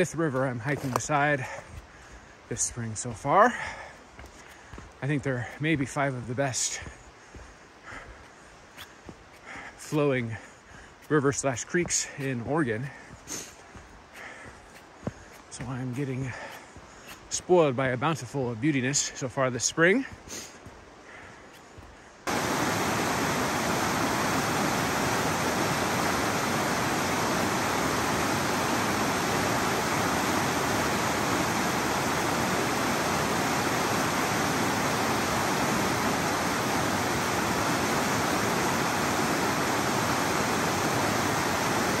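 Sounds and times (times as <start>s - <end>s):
river rushing: 0.0s - 17.5s, 22.2s - 42.0s.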